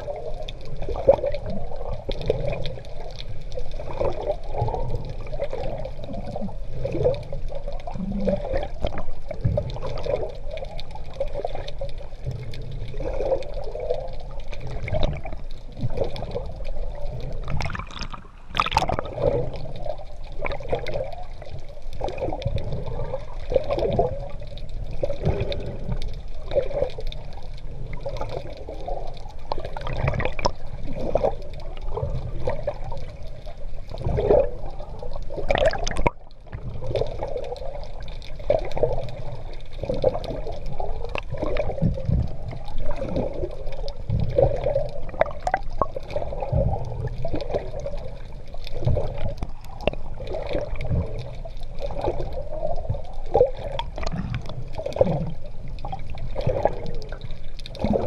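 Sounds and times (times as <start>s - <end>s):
low rumble of moving water: 0.0s - 58.0s
water sloshing and bubbling: 0.0s - 58.0s.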